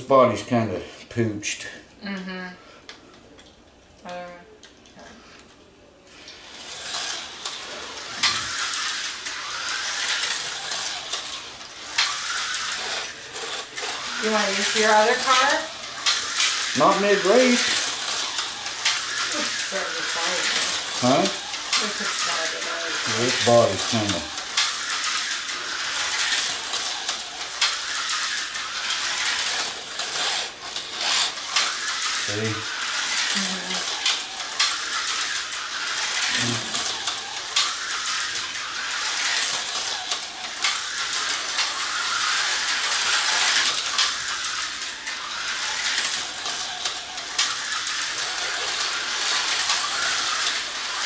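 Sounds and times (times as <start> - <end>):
small electric motors whirring: 6.1 - 51.0
toy cars rattling on track: 6.1 - 51.0.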